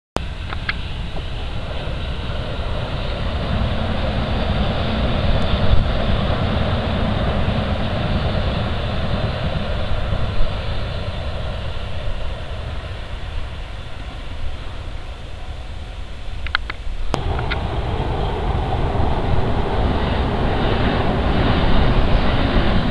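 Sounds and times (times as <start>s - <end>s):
wind buffeting microphone: 0.2s - 22.9s.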